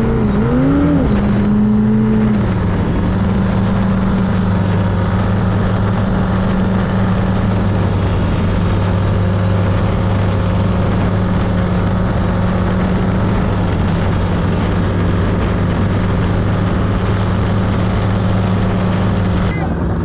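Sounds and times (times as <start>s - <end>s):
boat engine running: 0.0s - 20.0s
steady rushing noise: 0.0s - 20.0s.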